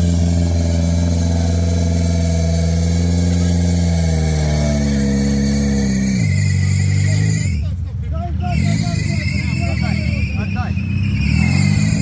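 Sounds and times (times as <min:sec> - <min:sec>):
engine at high revs: 0:00.0 - 0:07.6, 0:08.5 - 0:12.0.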